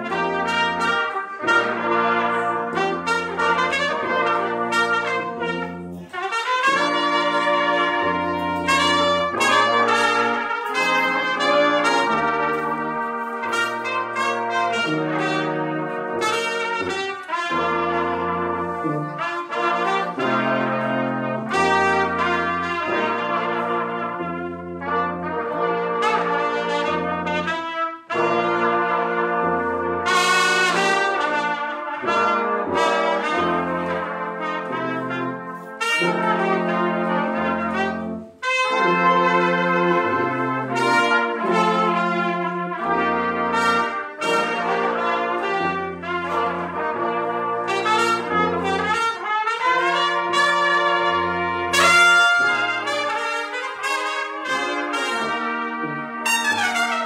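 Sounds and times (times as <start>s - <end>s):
brass quintet playing: 0.0s - 57.0s
tuba bass line: 0.0s - 57.0s.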